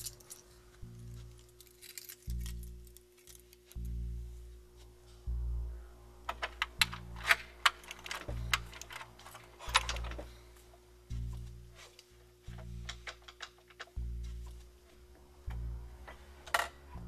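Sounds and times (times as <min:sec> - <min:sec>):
music with low bass pulse: 0:00.0 - 0:17.0.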